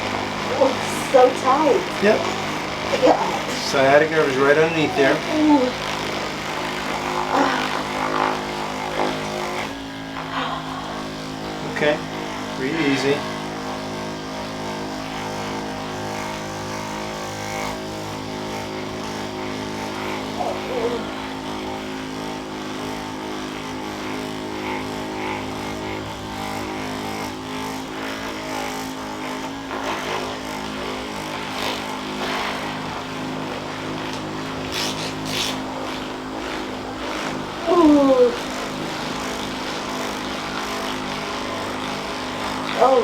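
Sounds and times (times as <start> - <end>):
massager motor humming: 0.0 - 43.0.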